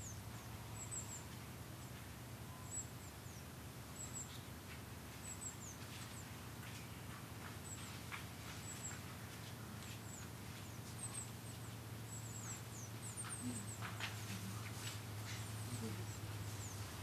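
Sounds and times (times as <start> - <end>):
songbirds calling: 0.0 - 17.0
steady low hum: 0.0 - 17.0.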